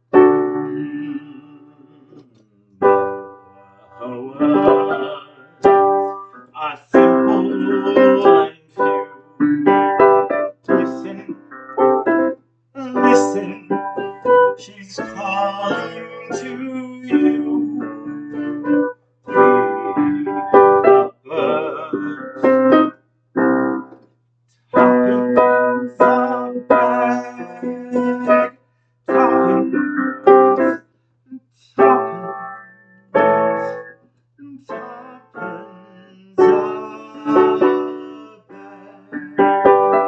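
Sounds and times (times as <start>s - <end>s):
slow piano chords: 0.0s - 24.0s, 24.7s - 28.5s, 29.1s - 30.8s, 31.8s - 34.0s, 34.7s - 40.0s.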